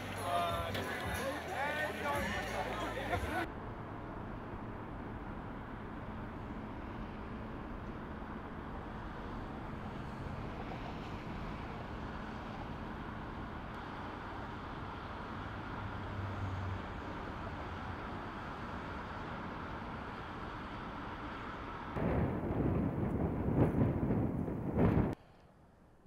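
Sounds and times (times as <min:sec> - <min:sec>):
distant vehicle rumble: 0:00.0 - 0:25.2.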